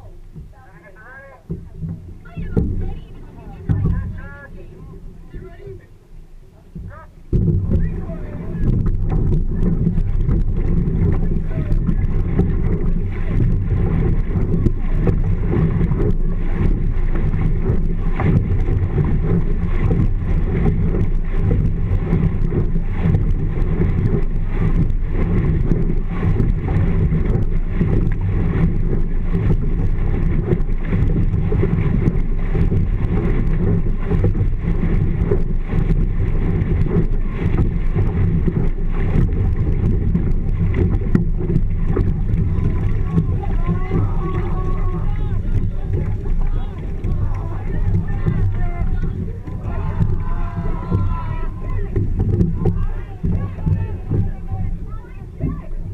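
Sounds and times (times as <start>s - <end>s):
water rushing past boat: 0.0s - 55.9s
wind rumble on microphone: 0.0s - 55.9s.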